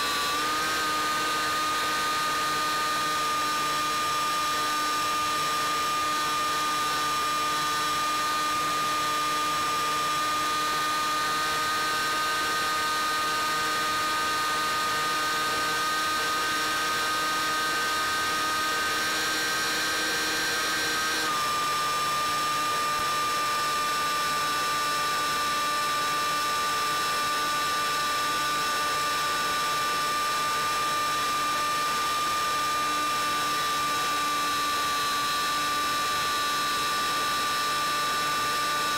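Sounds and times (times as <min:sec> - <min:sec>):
electric motor and propeller whining: 0:00.0 - 0:38.9.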